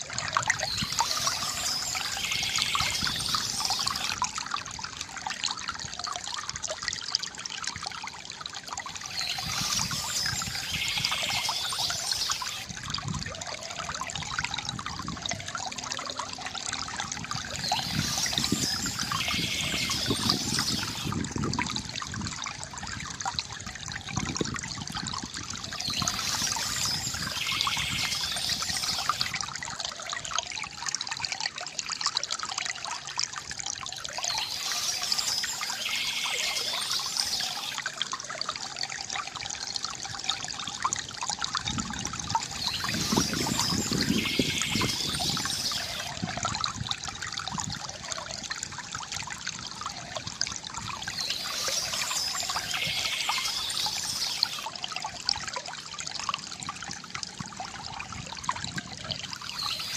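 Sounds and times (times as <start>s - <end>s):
water trickling from fountain: 0.0s - 59.9s.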